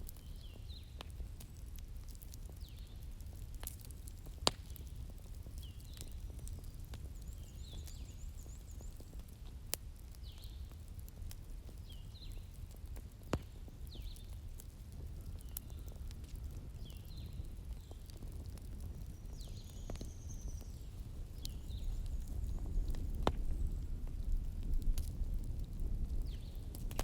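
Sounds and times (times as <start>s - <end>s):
bonfire rumbling and crackling: 0.0s - 27.0s
fire popping sharply: 0.1s - 27.0s.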